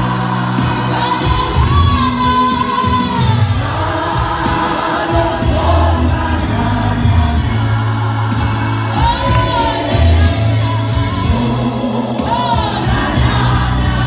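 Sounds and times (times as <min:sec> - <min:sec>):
group gospel singing: 0:00.0 - 0:14.0.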